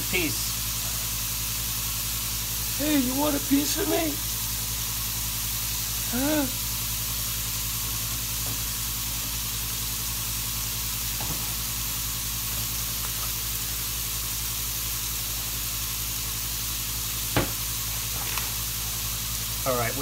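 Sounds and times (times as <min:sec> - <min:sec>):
steaks sizzling in skillet: 0:00.0 - 0:20.0.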